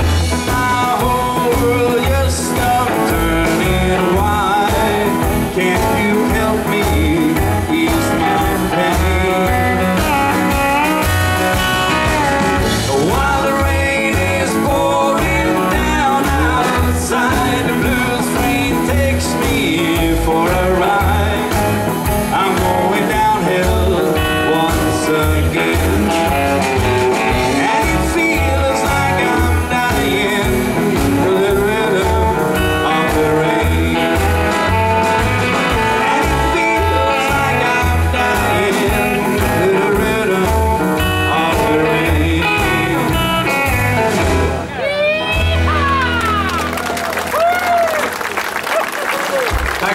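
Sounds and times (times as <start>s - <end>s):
double bass: 0.0s - 47.5s
drums: 0.0s - 49.9s
electric guitar: 0.0s - 49.9s
piano: 0.0s - 49.9s.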